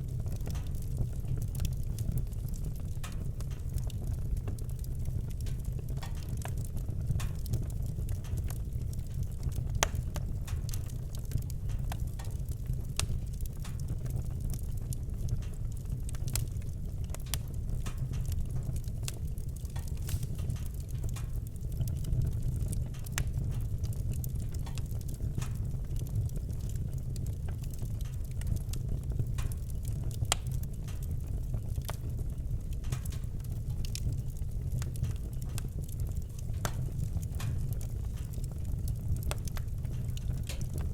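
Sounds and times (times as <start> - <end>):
fire crackling and popping: 0.0 - 40.9
fire roaring in fireplace: 0.0 - 40.9.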